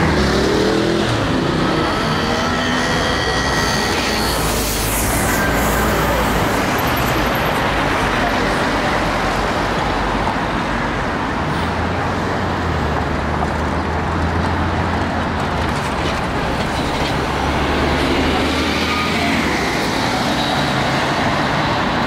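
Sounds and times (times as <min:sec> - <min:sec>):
bus engine hum: 0:00.0 - 0:22.0
road traffic passing: 0:00.0 - 0:22.0.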